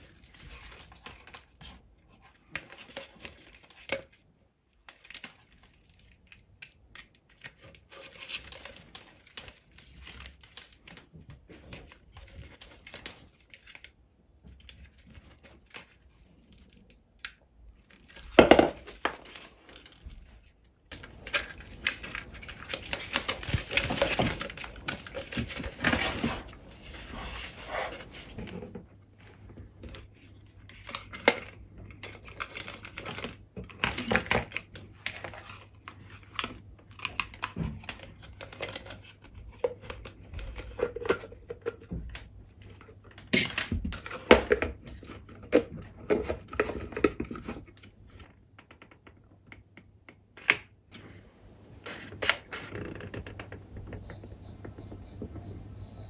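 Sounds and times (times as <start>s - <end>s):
light strip rustling and crinkling: 0.0s - 49.0s.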